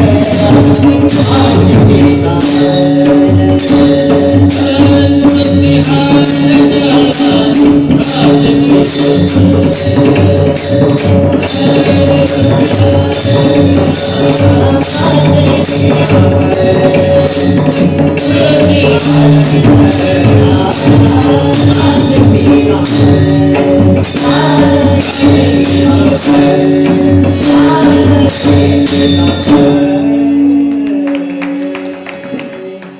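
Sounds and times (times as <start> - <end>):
metallic cymbal strikes: 0.0 - 32.3
held drone tone: 0.0 - 32.9.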